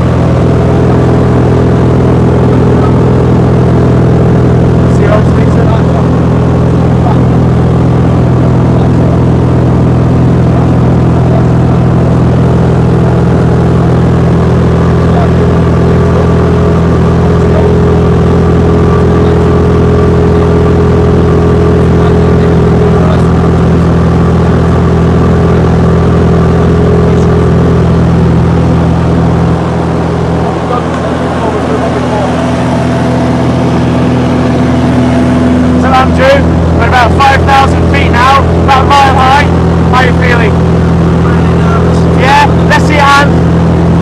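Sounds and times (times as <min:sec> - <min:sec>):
aircraft engine and propeller droning: 0:00.0 - 0:44.0.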